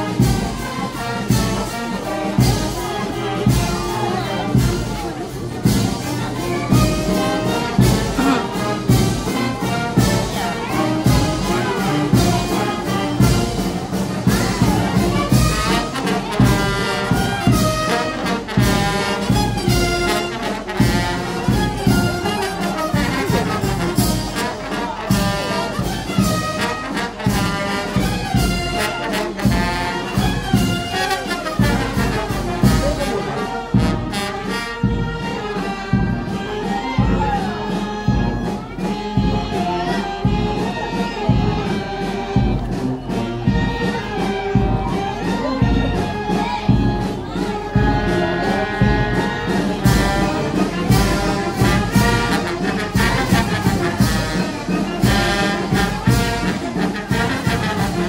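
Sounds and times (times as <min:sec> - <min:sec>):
brass band playing: 0:00.0 - 0:58.0.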